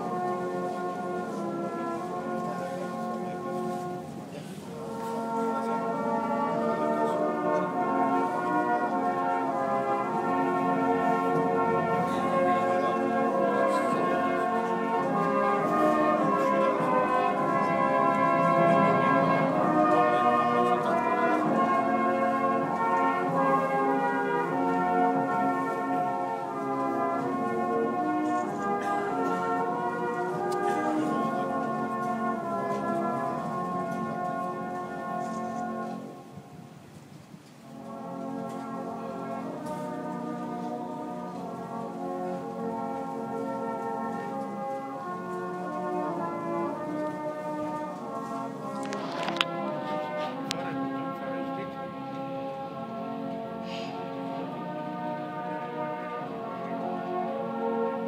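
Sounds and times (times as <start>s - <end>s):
brass band playing held chords: 0.0s - 36.8s, 37.6s - 58.0s.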